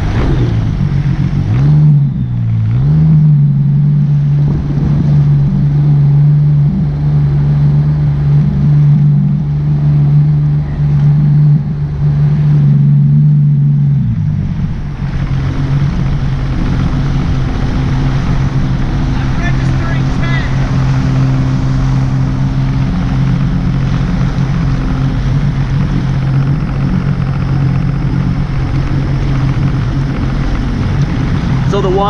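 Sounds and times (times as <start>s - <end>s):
motorboat engine running: 0.0s - 32.0s
wind and water rumble: 0.0s - 32.0s.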